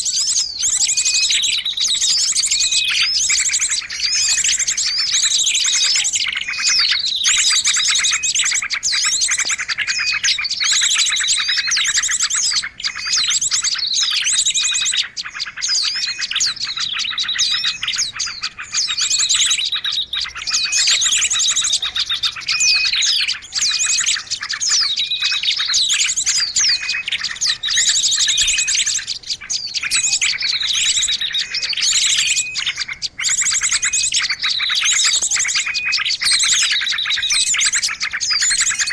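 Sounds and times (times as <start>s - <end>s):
falling bird chirp: 0.0s - 38.9s
small birds chattering: 0.0s - 38.9s.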